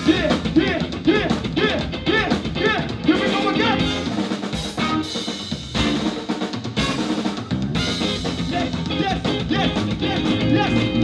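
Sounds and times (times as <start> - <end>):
band music: 0.0 - 11.0
drum kit playing: 0.0 - 11.0.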